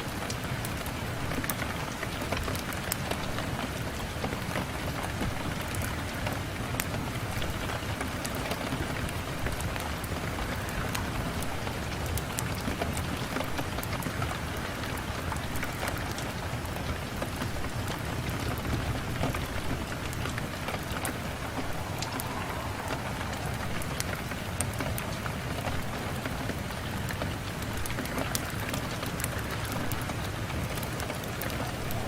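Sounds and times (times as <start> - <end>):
rain on a window: 0.0 - 32.0.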